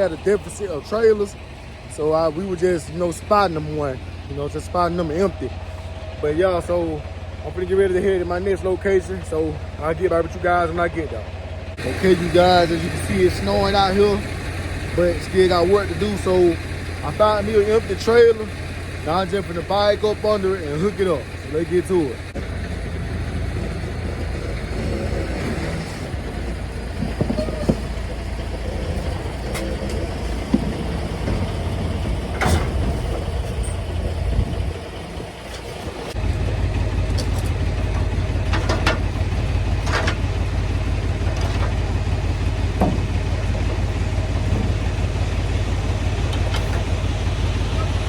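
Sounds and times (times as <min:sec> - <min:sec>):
diesel truck engine rumbling: 0:00.0 - 0:48.0.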